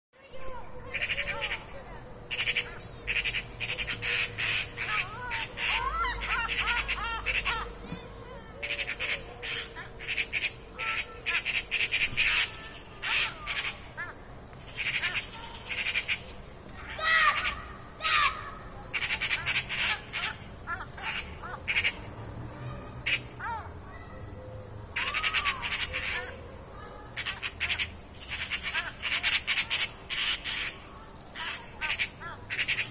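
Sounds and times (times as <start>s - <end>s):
gull squawking: 0.3s - 22.1s, 25.0s - 26.4s, 27.0s - 32.9s.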